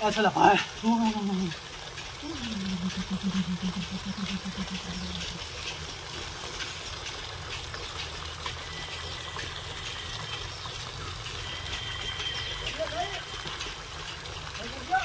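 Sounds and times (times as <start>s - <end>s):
pump engine humming: 0.0s - 15.0s.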